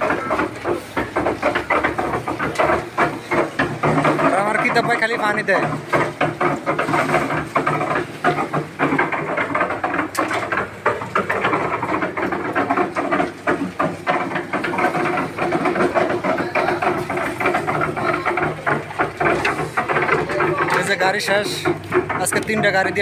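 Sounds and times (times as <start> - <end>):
concrete mixer drone: 0.0 - 23.0
stones tumbling in drum: 0.0 - 23.0.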